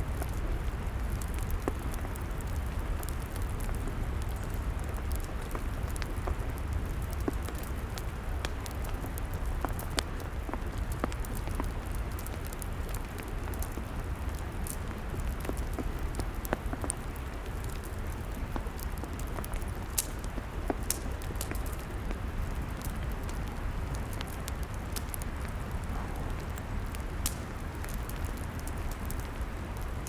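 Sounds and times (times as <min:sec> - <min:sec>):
log fire crackling: 0:00.0 - 0:30.0.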